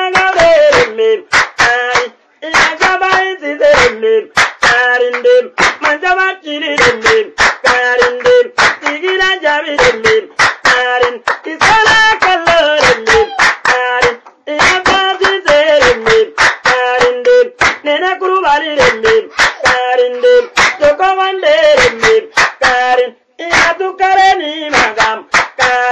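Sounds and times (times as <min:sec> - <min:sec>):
rhythmic hand clapping: 0:00.0 - 0:25.9.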